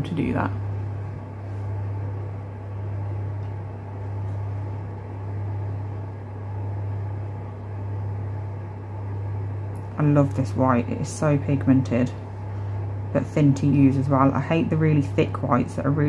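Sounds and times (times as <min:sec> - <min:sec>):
room heater humming: 0:00.0 - 0:16.0.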